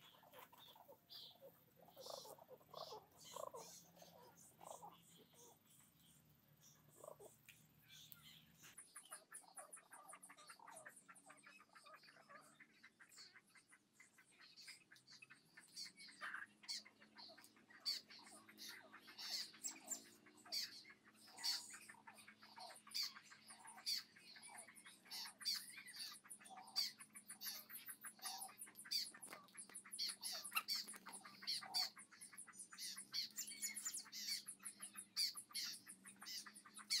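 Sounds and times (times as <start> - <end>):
birds chirping and squawking: 0.0 - 37.0.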